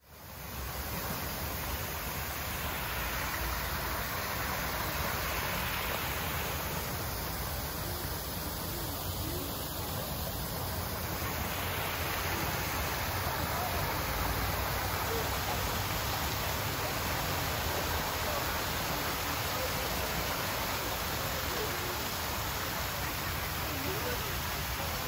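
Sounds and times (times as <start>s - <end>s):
water splashing down cascade: 0.0s - 25.0s.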